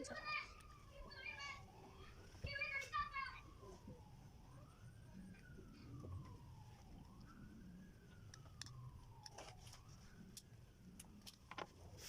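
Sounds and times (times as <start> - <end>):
faint wailing siren: 0.0 - 12.0.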